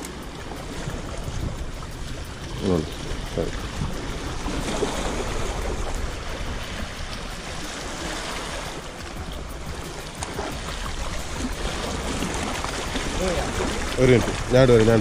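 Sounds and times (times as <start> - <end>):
sea water splashing against rocks: 0.0 - 15.0.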